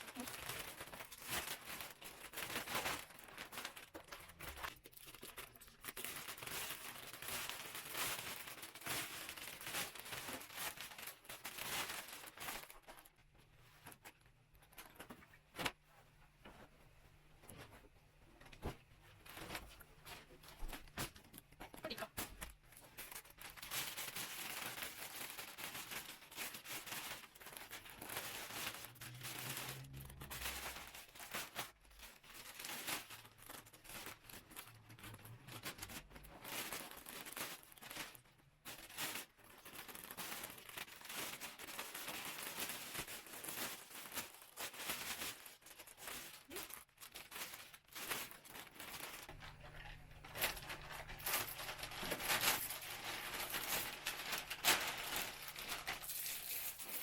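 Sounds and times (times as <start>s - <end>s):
plastic bag crinkling: 0.0s - 15.2s, 19.2s - 57.0s.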